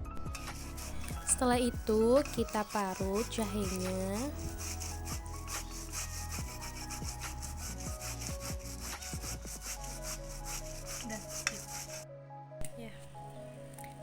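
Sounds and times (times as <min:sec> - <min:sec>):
background music: 0:00.0 - 0:14.0
ginger rasping on a grater: 0:00.6 - 0:12.0.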